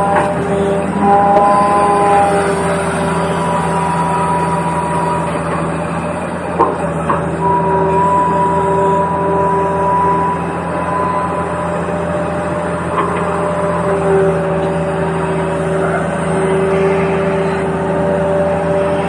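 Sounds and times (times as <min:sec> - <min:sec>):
toy vehicle electric whine: 0:00.0 - 0:19.0.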